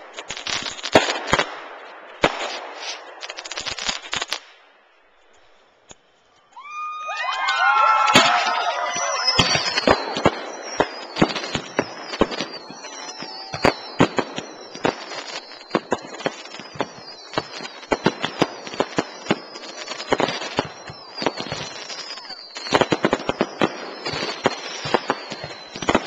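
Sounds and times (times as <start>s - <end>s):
falling fireworks whistles: 0.0s - 26.0s
fireworks bangs and crackles: 0.0s - 26.0s.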